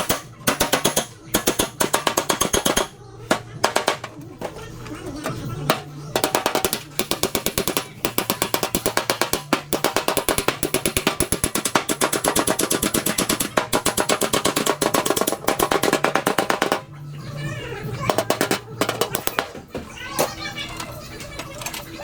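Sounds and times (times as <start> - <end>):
hammer tapping sheet metal: 0.0 - 16.9, 18.1 - 20.3.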